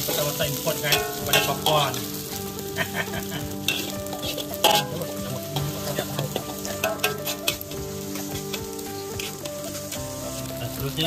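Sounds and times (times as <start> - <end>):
metal spatula scraping a wok: 0.0 - 10.8
vegetables sizzling in hot oil: 0.0 - 11.0.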